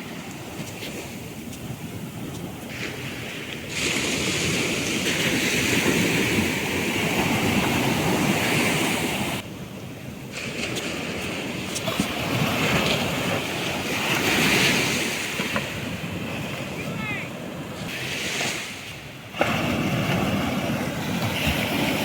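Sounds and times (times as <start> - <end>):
sea waves breaking: 0.0 - 22.0.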